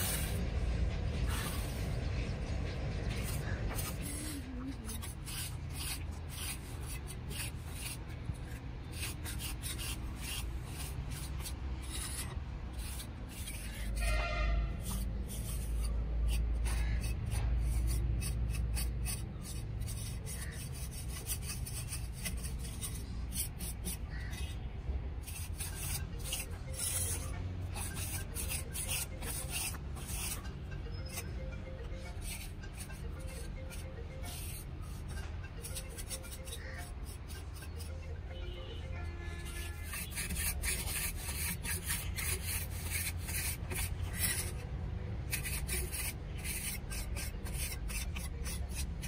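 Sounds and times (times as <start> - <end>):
trowel scraping wet cement: 3.2 - 37.9, 39.4 - 44.6, 45.3 - 49.0.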